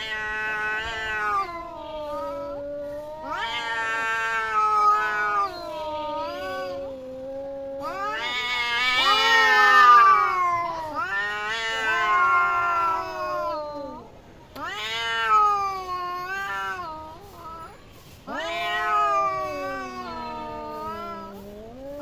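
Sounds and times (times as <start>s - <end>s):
cats yowling: 0.0s - 22.0s.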